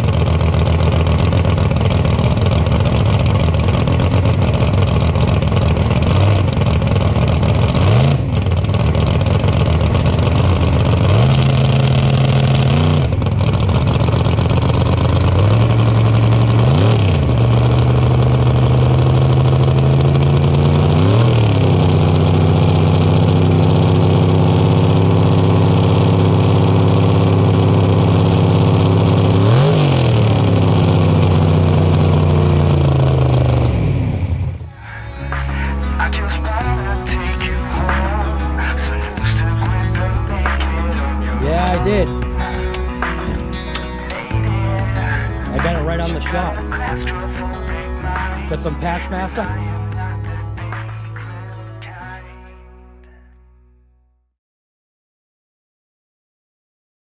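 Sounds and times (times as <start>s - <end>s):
car engine idling with throttle blips: 0.0s - 51.0s.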